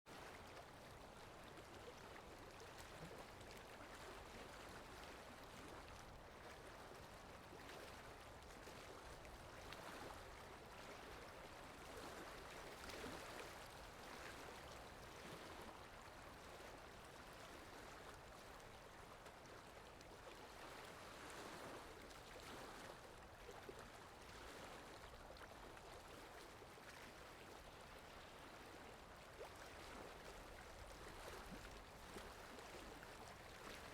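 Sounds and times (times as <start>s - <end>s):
water lapping: 0.1s - 33.9s.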